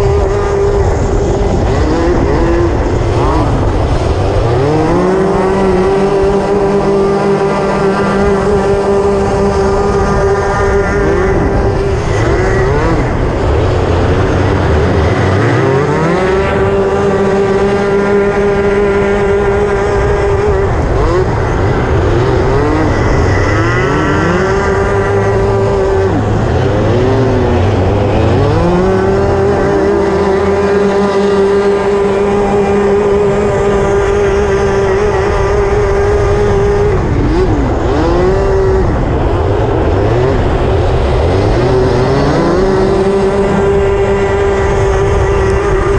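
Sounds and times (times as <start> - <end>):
kart engine at full throttle: 0.0 - 45.9.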